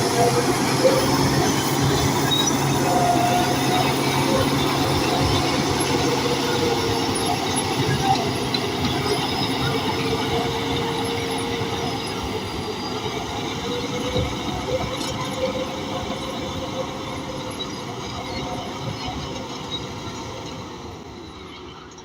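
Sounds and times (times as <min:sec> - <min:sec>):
steel tracks squealing and clanking: 0:00.0 - 0:22.0.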